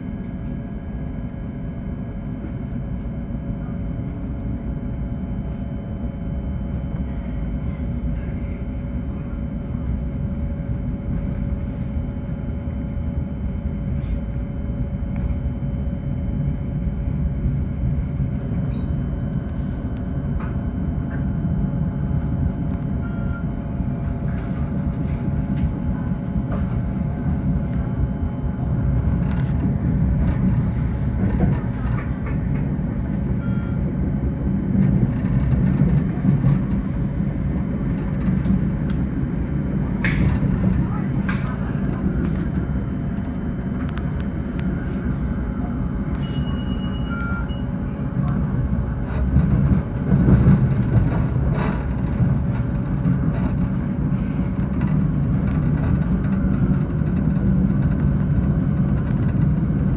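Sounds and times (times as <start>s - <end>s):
steady hum: 0.0s - 59.9s
train wheels rumbling on rails: 0.0s - 59.9s.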